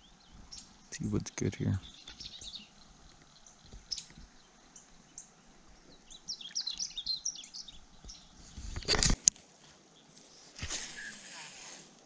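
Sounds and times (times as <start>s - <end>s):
birds chirping and singing: 0.0s - 8.5s, 9.9s - 11.4s.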